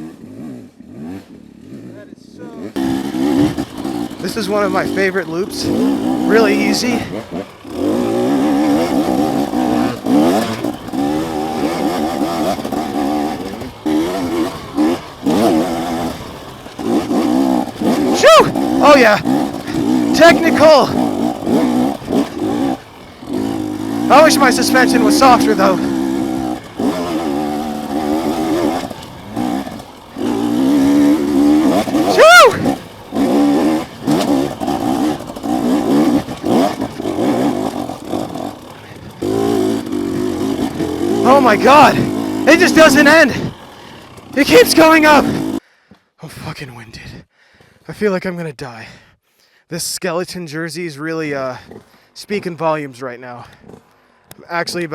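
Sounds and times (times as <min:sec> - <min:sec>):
dirt bike engine revving: 0:00.0 - 0:45.6.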